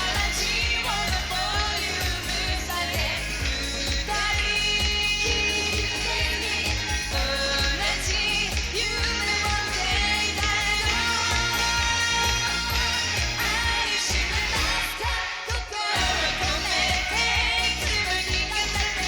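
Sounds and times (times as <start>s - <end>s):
dance beat: 0.0s - 19.0s
pop song singing: 0.0s - 19.0s.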